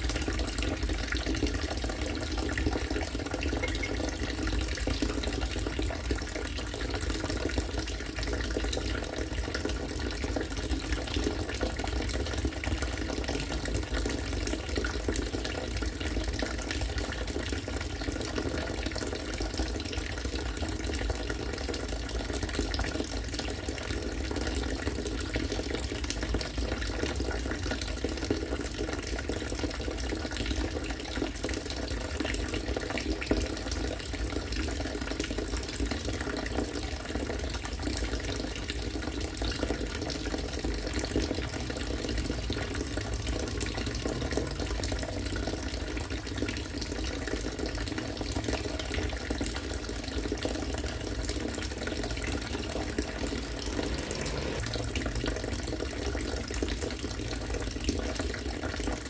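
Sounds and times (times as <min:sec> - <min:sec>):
rainwater pouring into container: 0:00.0 - 0:59.0.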